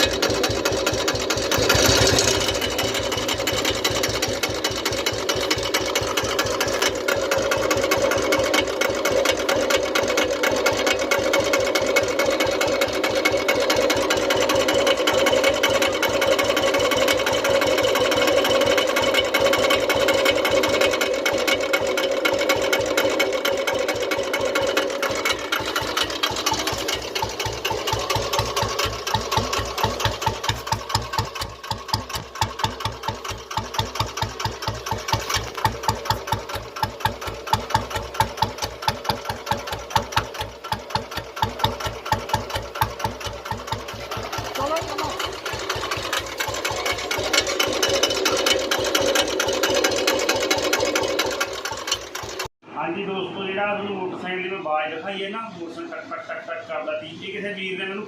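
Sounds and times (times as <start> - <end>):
motorcycle engine knocking: 0.0 - 52.5.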